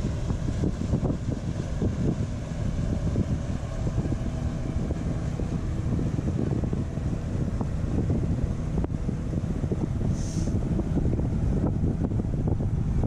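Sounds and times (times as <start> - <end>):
motorboat engine humming: 0.0 - 13.0
wind buffeting microphone: 0.0 - 13.0.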